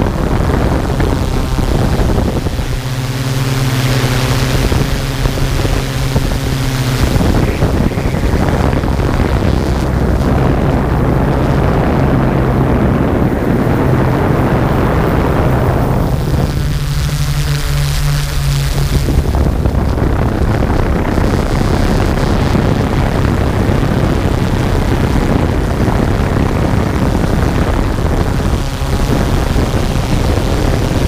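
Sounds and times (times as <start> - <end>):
drone propellers humming: 0.0 - 31.0
wind on microphone: 0.0 - 31.0.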